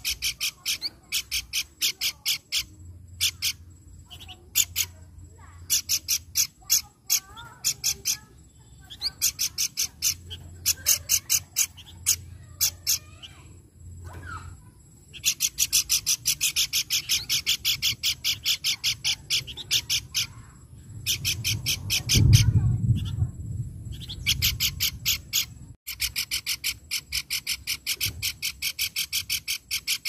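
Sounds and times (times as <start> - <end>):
bird high sharp chirps: 0.0 - 30.0.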